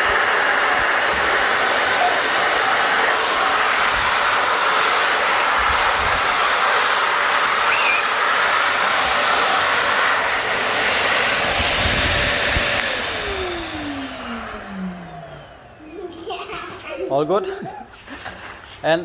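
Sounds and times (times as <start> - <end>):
vacuum motor winding down: 0.0 - 16.1
vacuum cleaner running: 0.0 - 17.3.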